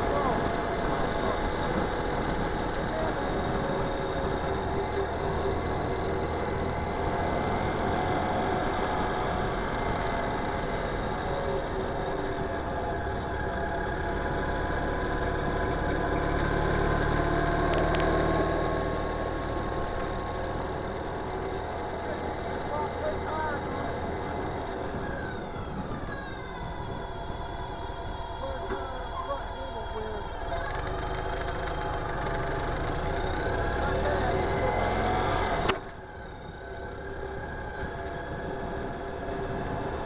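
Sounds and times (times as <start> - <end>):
motorcycle engine running: 0.0 - 40.0
road and wind noise: 0.0 - 40.0.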